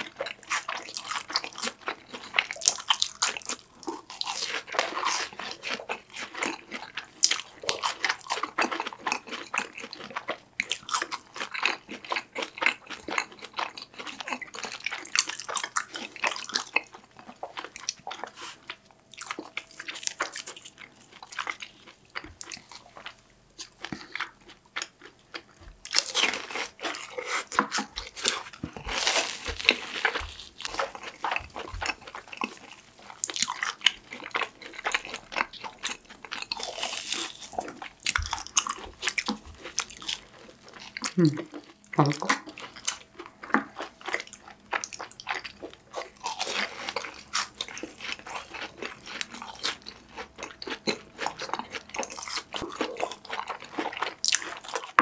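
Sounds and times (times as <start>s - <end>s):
people crunching fried snacks: 0.0s - 55.0s.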